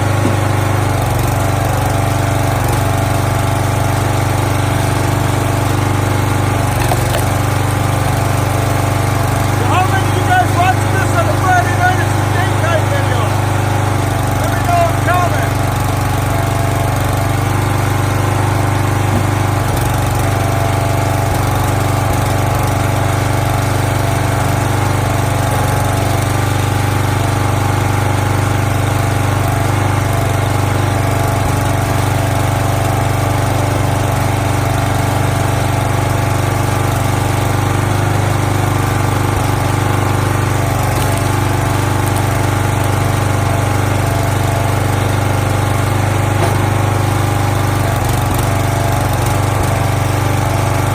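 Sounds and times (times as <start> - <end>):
log splitter engine running: 0.0 - 50.9.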